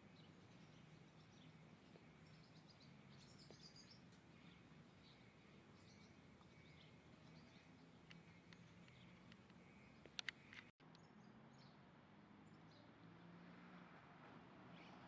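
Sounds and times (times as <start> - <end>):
songbirds chirping and trilling: 0.0 - 13.4.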